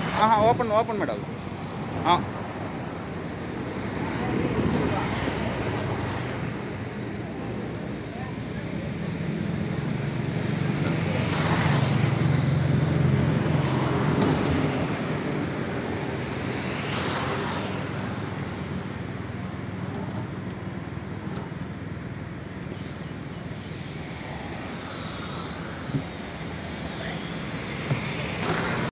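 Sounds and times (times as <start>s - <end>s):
street traffic: 0.0s - 28.9s.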